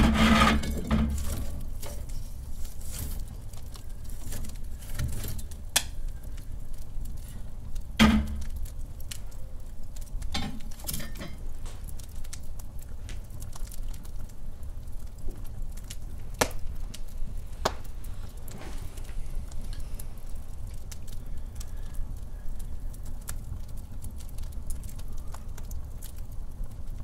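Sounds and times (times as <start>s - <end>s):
sharp pops of fire: 0.0s - 27.0s
wood fire crackling: 0.0s - 27.0s.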